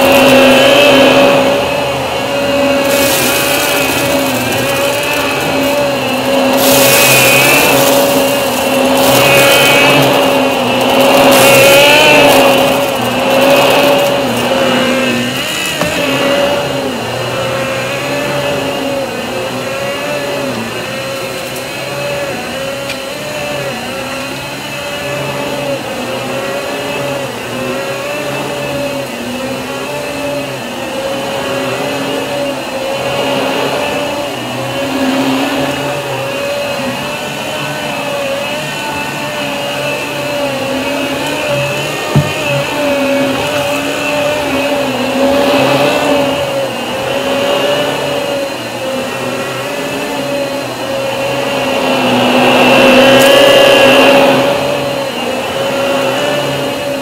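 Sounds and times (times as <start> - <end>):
vacuum cleaner running on carpet: 0.0 - 57.0.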